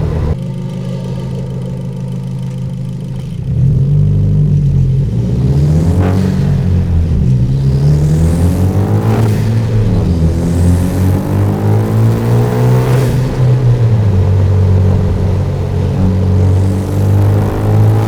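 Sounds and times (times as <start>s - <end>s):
car engine accelerating: 0.0s - 18.0s
exhaust drone: 0.0s - 18.0s.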